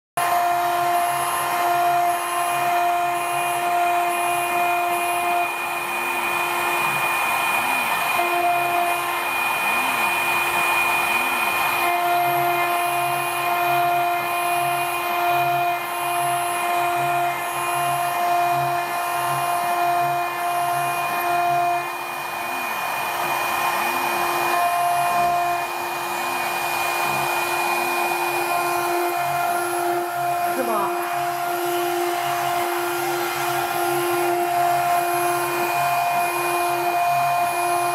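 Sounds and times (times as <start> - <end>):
engraving spindle whine: 0.2 - 37.9
low rhythmic pulsing: 0.2 - 37.9.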